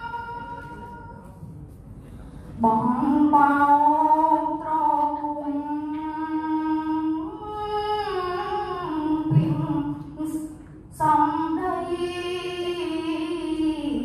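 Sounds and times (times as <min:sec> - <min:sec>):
boy chanting verse: 0:02.6 - 0:14.0.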